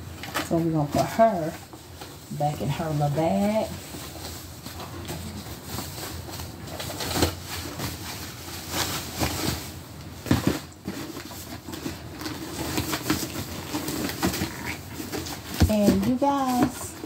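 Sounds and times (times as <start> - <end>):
bag rustling: 0.3 - 17.0.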